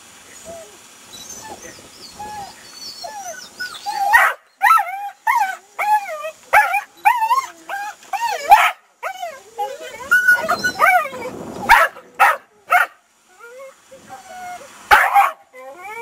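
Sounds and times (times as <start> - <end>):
dog whining and yelping: 0.5 - 16.0.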